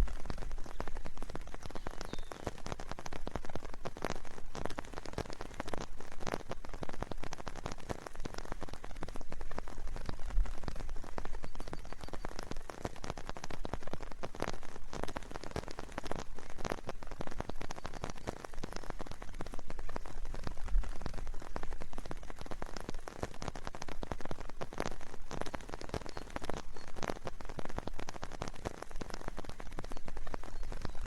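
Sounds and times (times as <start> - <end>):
steady rain drops: 0.0 - 31.0.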